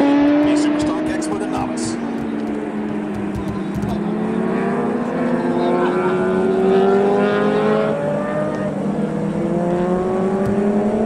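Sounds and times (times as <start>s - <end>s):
racing motorcycles accelerating: 0.0s - 11.0s.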